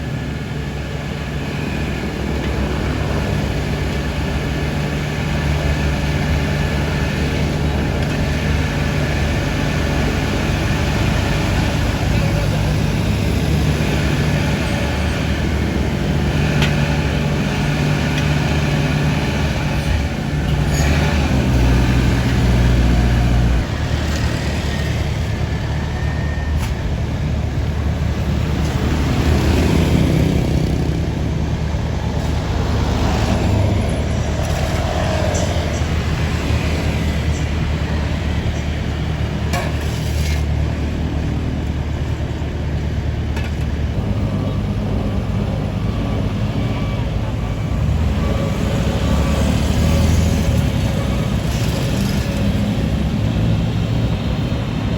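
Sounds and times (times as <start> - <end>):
diesel engines droning: 0.0 - 54.9.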